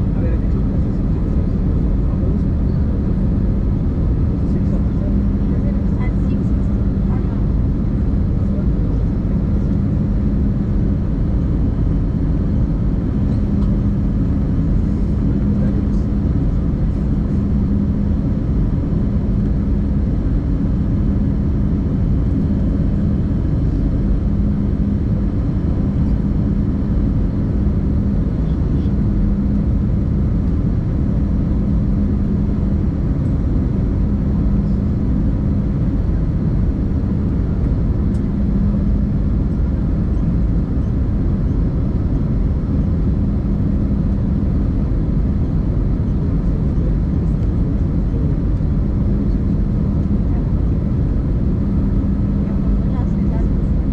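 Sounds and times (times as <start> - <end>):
airliner cabin noise: 0.0 - 53.9
low hum: 0.0 - 53.9.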